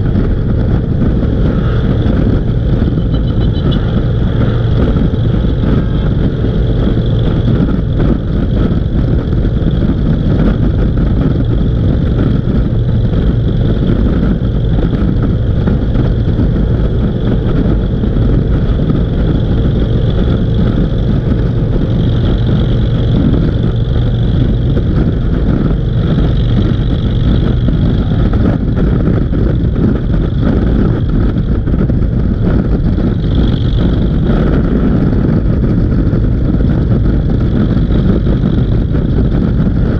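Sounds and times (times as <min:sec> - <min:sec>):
motorcycle engines running: 0:00.0 - 0:39.9
road and wind noise: 0:00.0 - 0:39.9.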